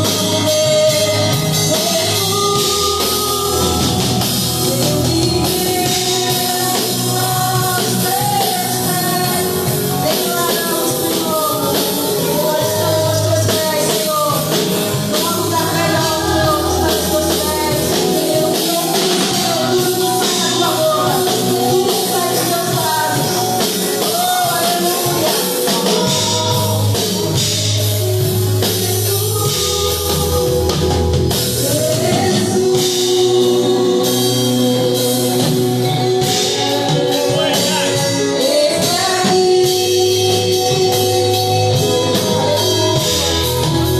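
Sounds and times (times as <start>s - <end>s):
gospel band playing: 0.0s - 43.9s
low bass notes: 0.0s - 43.9s
person singing: 0.0s - 43.9s.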